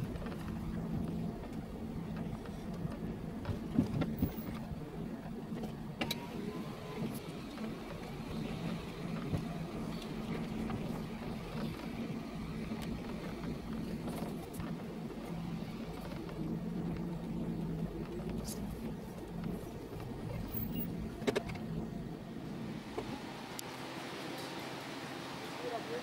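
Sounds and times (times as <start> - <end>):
car engine humming: 0.0 - 26.0.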